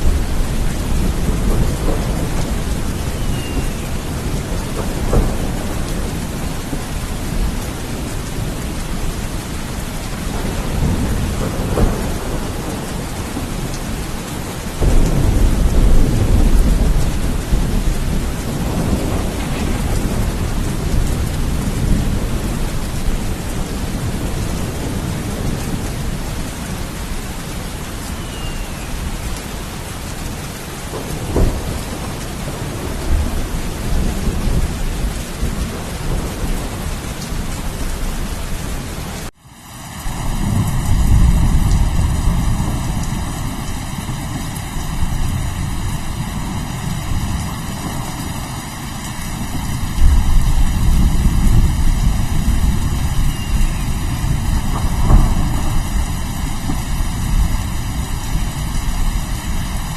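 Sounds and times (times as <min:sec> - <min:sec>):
rolling thunder: 0:00.0 - 0:38.9, 0:40.0 - 0:59.9
heavy rain: 0:00.0 - 0:59.9.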